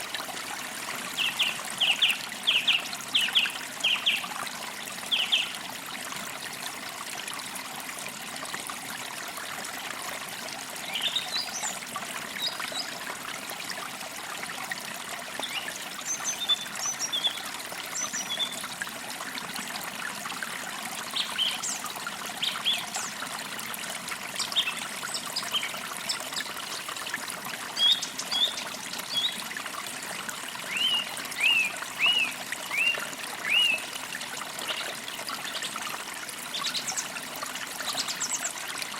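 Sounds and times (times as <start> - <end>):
creek trickling over stones: 0.0 - 38.9.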